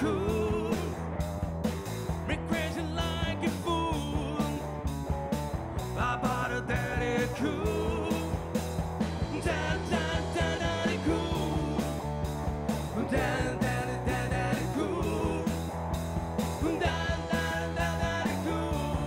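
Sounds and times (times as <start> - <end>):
drum kit beat: 0.0 - 19.0
electric bass: 0.0 - 19.0
electric guitar: 0.0 - 19.0.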